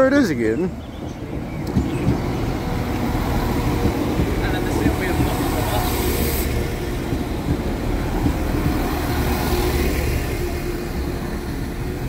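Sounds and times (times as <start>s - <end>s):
diesel train engine rumbling: 0.0s - 12.0s.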